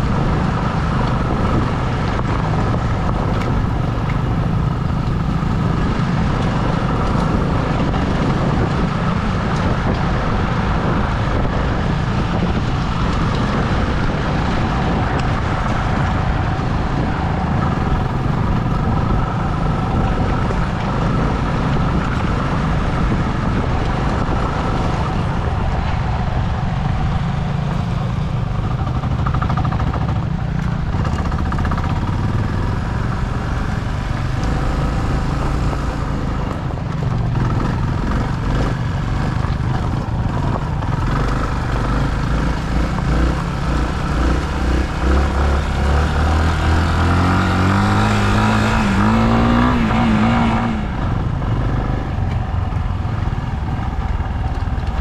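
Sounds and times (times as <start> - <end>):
road and wind noise: 0.0 - 55.0
vehicle engine running: 0.0 - 55.0.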